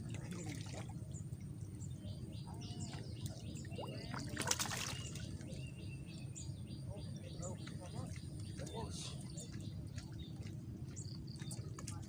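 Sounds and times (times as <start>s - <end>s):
water trickling and splashing: 0.0s - 5.7s, 7.1s - 12.0s
birds chirping: 0.1s - 12.0s.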